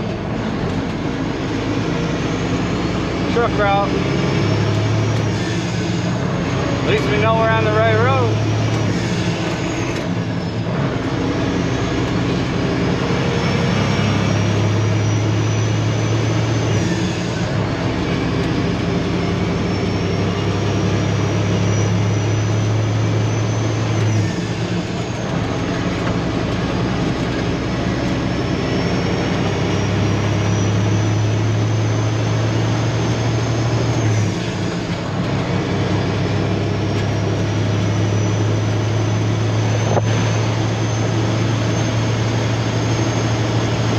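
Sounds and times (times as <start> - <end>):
truck diesel engine drone: 0.0 - 43.9.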